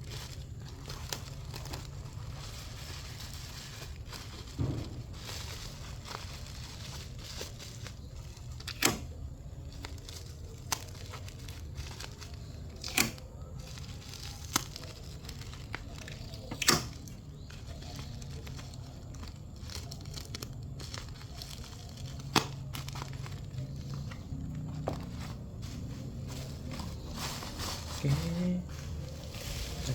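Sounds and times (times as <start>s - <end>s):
plastic crinkling: 0.0s - 29.9s
packing tape ripping: 0.2s - 25.2s.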